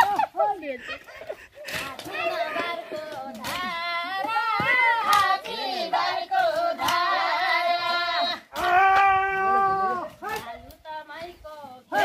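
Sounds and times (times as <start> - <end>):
unaccompanied group singing folk song: 1.1 - 9.0, 9.9 - 12.0.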